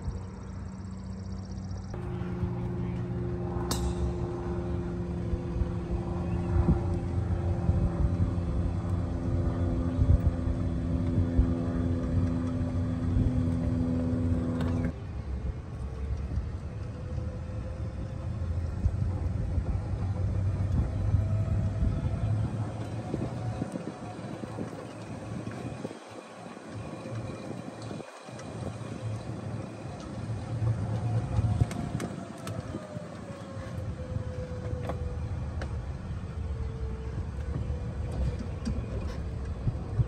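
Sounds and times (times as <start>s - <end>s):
golf cart motor hum: 0.0s - 40.0s
rising motor whine: 0.0s - 40.0s
road rumble: 0.0s - 40.0s.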